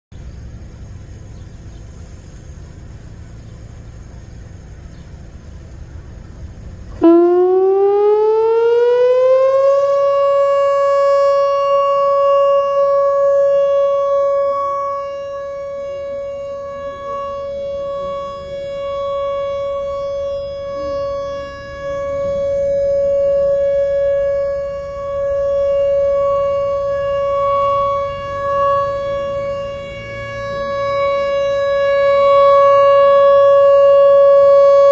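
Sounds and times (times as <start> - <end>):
electronic tornado siren: 5.1 - 34.9.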